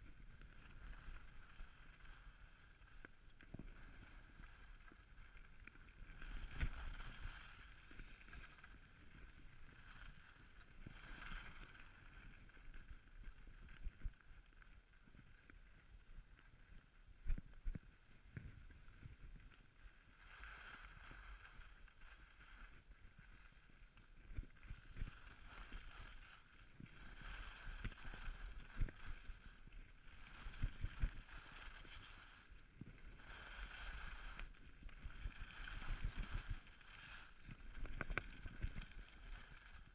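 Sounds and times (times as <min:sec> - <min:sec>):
skis scraping over snow: 0:00.1 - 0:14.8, 0:18.0 - 0:39.9.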